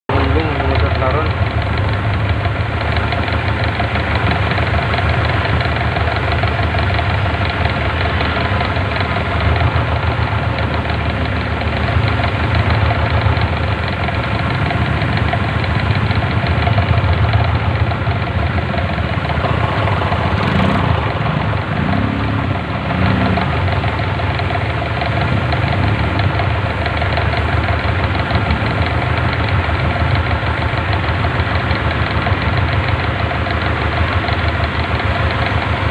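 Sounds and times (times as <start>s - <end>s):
vehicle engine idling: 0.1s - 35.9s.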